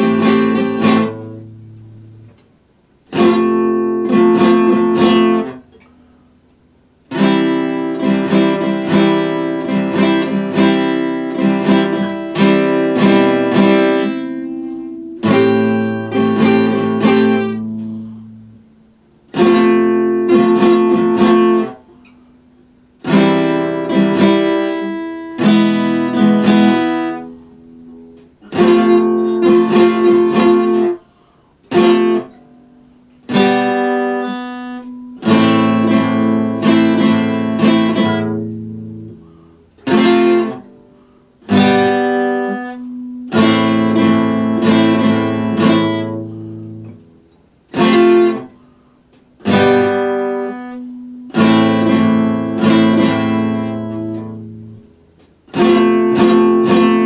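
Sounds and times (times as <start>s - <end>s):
acoustic guitar strummed chords: 0.0s - 57.0s.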